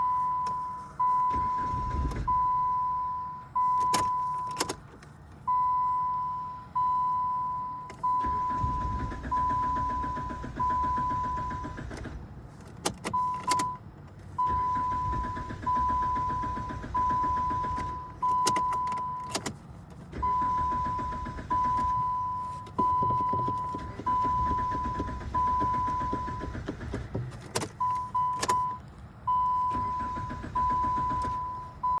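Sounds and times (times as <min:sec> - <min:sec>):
dashboard warning chime: 0:00.0 - 0:04.8, 0:05.5 - 0:11.8, 0:13.0 - 0:13.8, 0:14.4 - 0:19.6, 0:20.2 - 0:26.7, 0:27.6 - 0:32.0.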